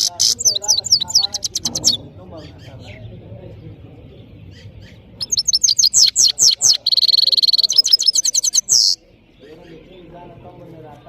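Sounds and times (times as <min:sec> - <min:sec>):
goldfinch chirps and twittering: 0:00.0 - 0:03.2, 0:04.1 - 0:10.3.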